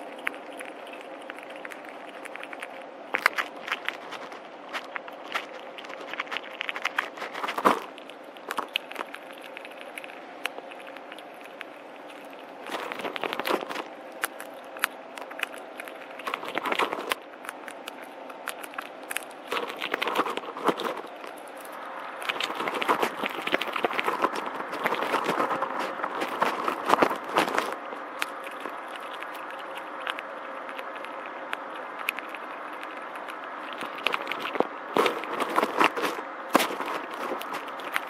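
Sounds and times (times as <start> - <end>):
squirrel cracking seeds: 0.0 - 38.0.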